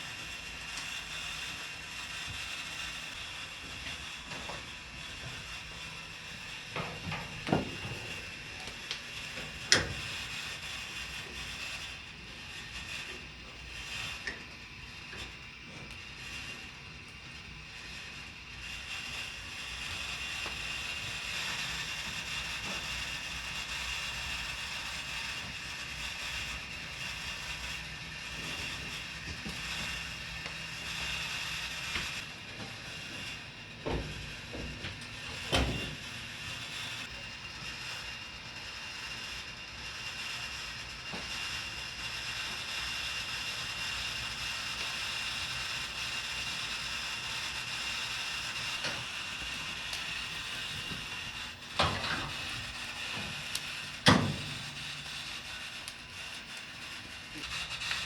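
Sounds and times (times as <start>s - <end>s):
rotisserie mechanical whirring rattle: 0.0s - 58.0s.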